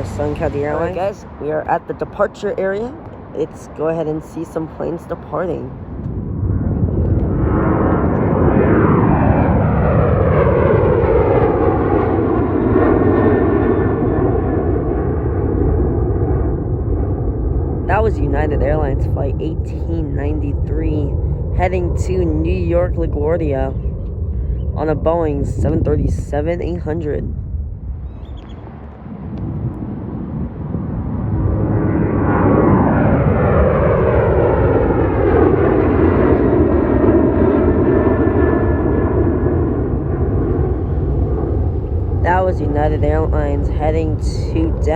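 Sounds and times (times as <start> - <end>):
jet engine whine: 0.0 - 44.9
jet takeoff rumble: 0.0 - 44.9.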